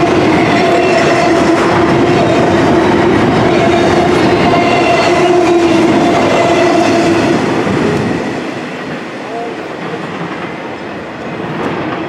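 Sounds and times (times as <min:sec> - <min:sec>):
freight train wheels rumbling on rail: 0:00.0 - 0:12.0.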